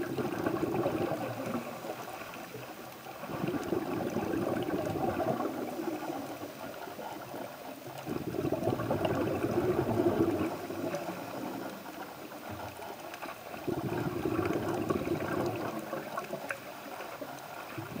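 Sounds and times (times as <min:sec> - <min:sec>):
muffled underwater water noise: 0:00.0 - 0:18.0
rushing gurgling water surges: 0:00.0 - 0:18.0.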